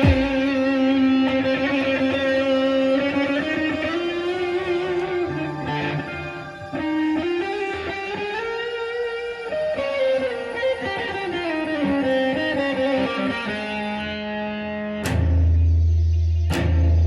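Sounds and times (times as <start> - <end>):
electric guitar lead melody: 0.0 - 15.8.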